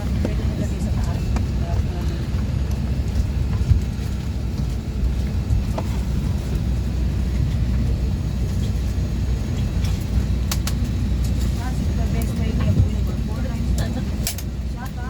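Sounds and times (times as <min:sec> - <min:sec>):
vehicle interior rumble: 0:00.0 - 0:15.0.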